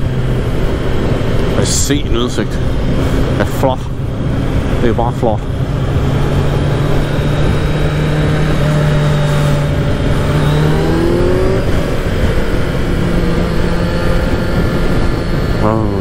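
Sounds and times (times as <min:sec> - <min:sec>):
motorcycle engine running: 0:00.0 - 0:16.0
wind rush: 0:00.0 - 0:16.0.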